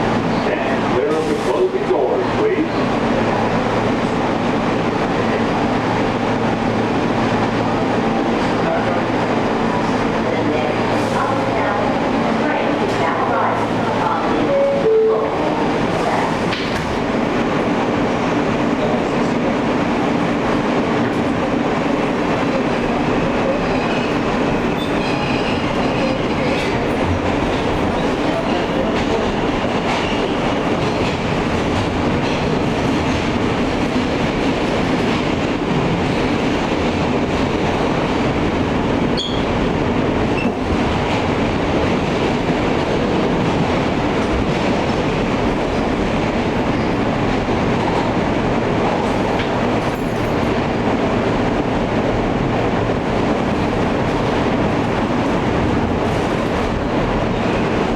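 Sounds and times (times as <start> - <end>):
subway wheels rumbling on rail: 0.0 - 57.9.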